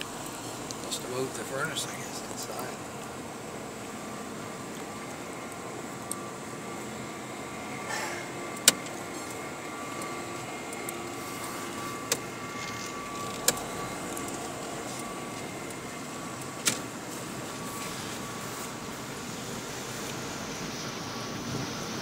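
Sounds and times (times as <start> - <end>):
car cabin hum: 0.0 - 22.0.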